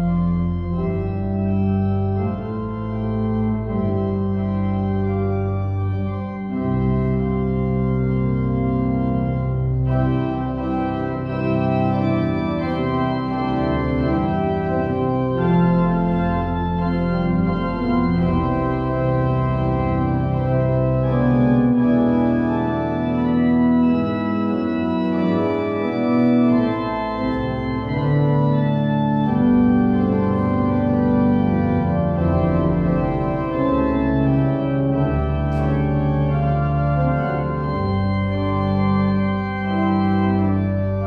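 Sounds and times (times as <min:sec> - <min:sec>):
church organ chords: 0:00.0 - 0:41.0.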